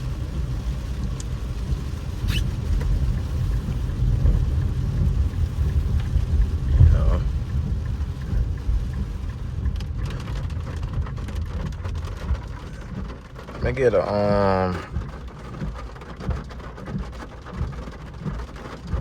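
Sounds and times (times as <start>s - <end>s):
rain on car: 0.0s - 19.0s
road and engine rumble: 0.0s - 19.0s.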